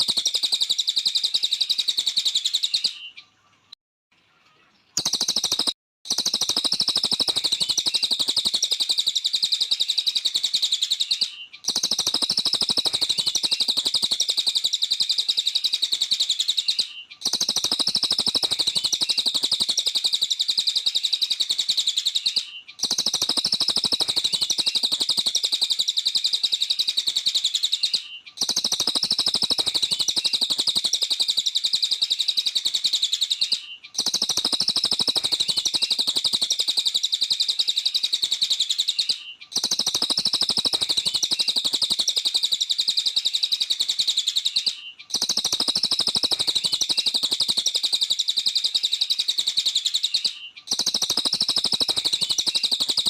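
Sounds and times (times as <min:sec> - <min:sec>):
songbird chirping and twittering: 0:00.0 - 0:53.0.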